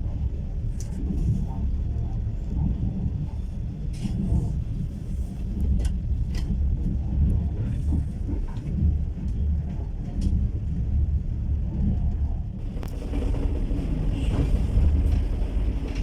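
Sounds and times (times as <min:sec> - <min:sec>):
train car rumble: 0:00.0 - 0:16.0.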